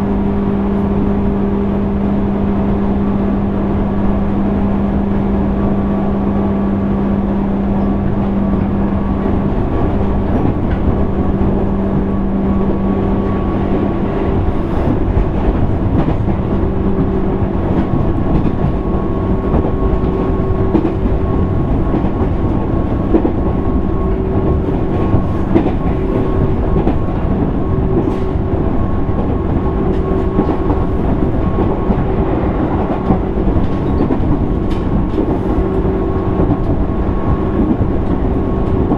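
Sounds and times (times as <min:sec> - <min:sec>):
train interior rumble: 0:00.0 - 0:38.9.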